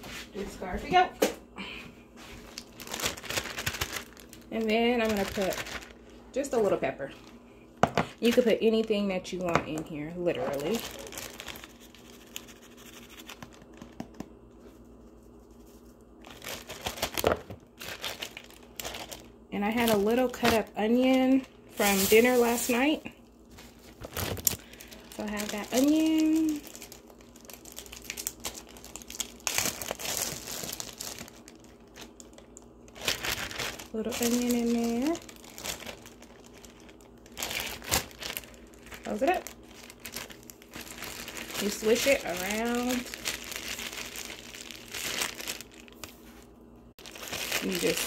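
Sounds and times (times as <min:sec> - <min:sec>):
plastic bags crinkling: 0:02.3 - 0:07.4, 0:08.0 - 0:14.0, 0:15.6 - 0:48.0.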